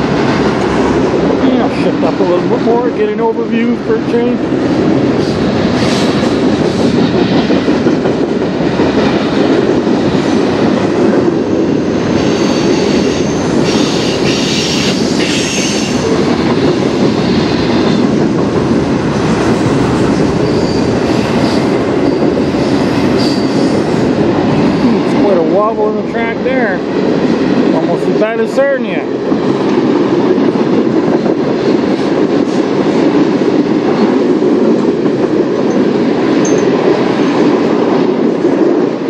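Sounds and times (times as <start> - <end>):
steel wheels rolling on rail: 0.0 - 39.0.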